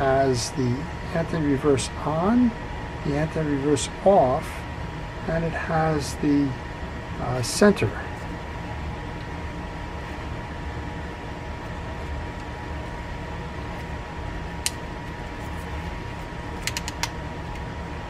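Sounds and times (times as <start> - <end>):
room hum with faint tone: 0.0 - 18.0.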